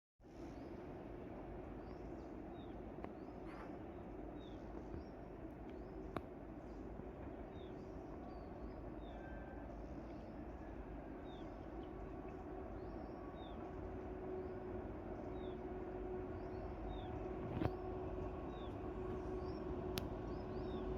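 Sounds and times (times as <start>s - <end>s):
low steady hum: 0.2s - 20.9s.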